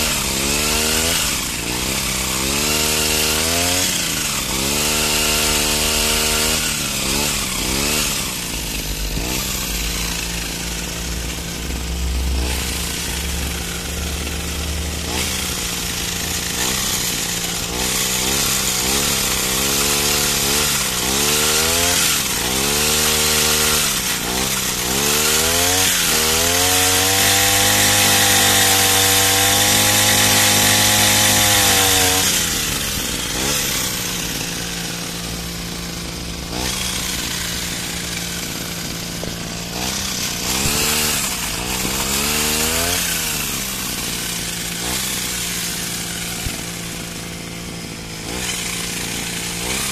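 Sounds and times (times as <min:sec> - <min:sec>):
small chainsaw engine revving: 0:00.0 - 0:49.9.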